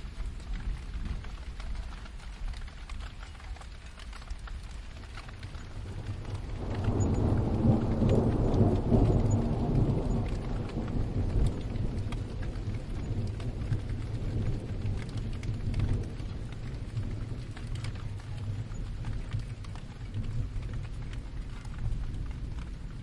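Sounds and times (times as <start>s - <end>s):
rain pattering: 0.0s - 23.0s
thunder rumbling: 0.0s - 23.0s.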